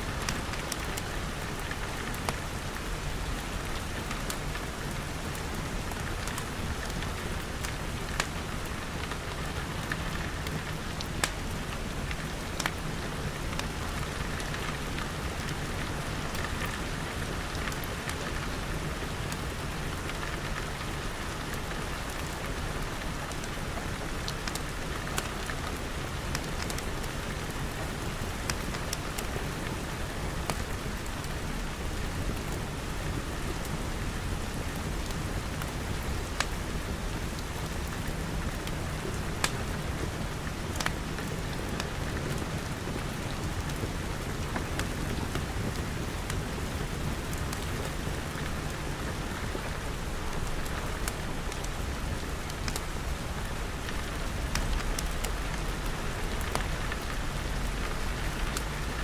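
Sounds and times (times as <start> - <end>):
wood fire crackles: 0.0 - 59.0
rain pattering on glass: 0.1 - 59.0.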